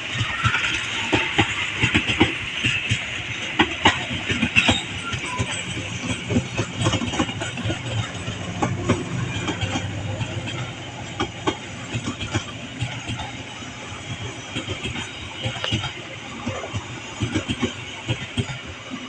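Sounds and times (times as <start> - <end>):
low train rumble: 0.0 - 19.0
train wheels clacking on rails: 0.0 - 19.0.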